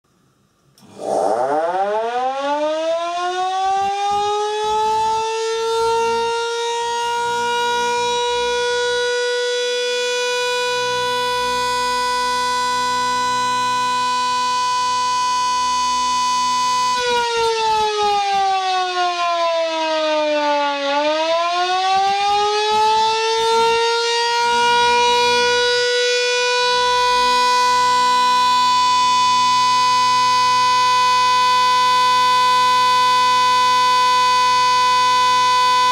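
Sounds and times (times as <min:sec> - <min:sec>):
motor-driven siren: 0:00.8 - 0:35.9.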